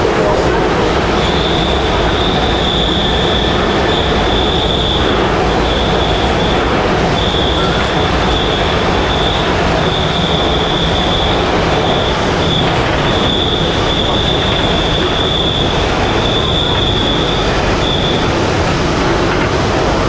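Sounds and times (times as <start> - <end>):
rumble of train wheels on rail: 0.0 - 20.0
high-pitched wheel squeal: 1.0 - 19.3.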